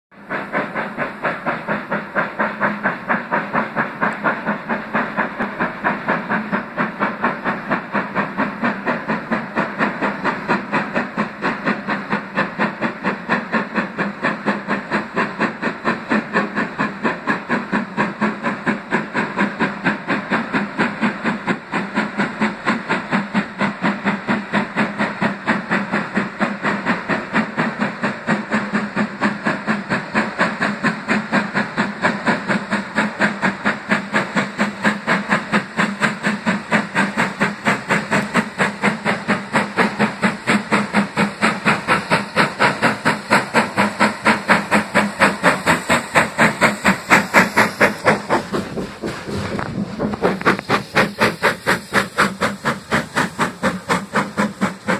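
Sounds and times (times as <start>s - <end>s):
steam locomotive exhaust beats: 0.1s - 54.9s.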